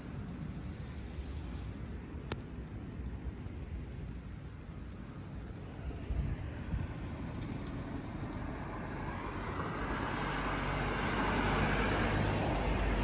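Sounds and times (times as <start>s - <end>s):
tyres hissing on wet road: 0.0s - 13.0s.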